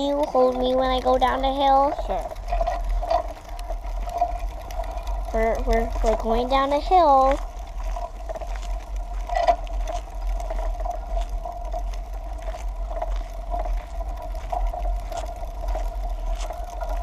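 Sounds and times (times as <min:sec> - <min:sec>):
bicycle rolling on pavement: 0:00.0 - 0:17.0.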